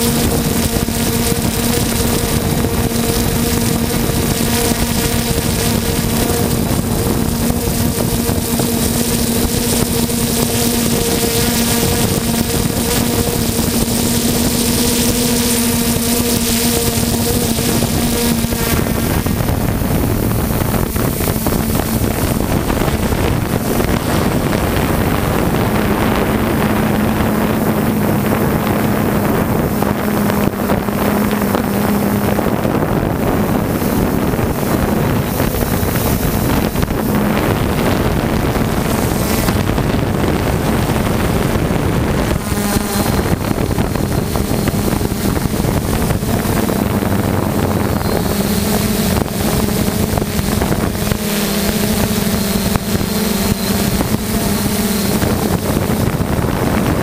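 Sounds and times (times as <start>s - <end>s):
drone propellers humming: 0.0s - 57.0s
wind rushing over microphone: 0.0s - 57.0s.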